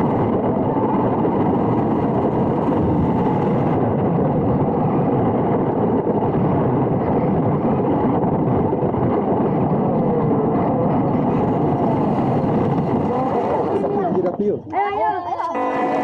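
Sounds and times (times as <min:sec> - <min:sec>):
tyres and chassis rumble: 0:00.0 - 0:16.0.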